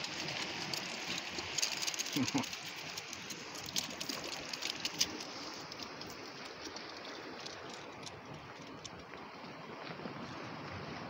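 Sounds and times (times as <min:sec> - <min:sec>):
sea water washing against rocks: 0:00.0 - 0:11.0.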